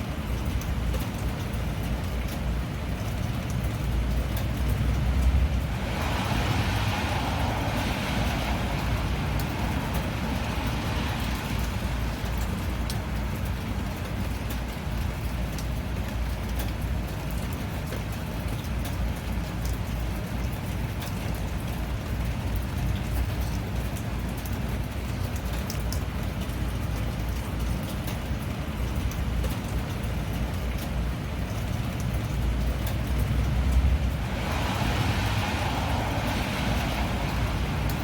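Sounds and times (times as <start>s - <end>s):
raindrops ticking: 0.0s - 38.0s
steady rain: 0.0s - 38.0s.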